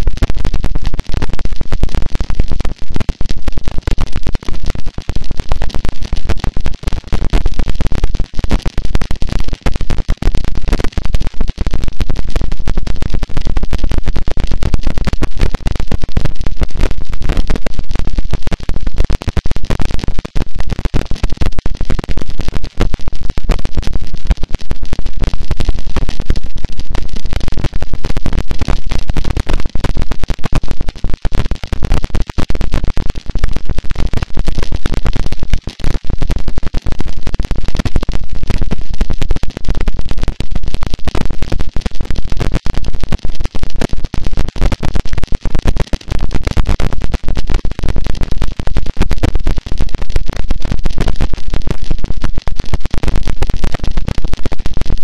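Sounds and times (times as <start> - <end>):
dense distorted static noise: 0.0 - 55.0
fine crackle: 0.0 - 55.0.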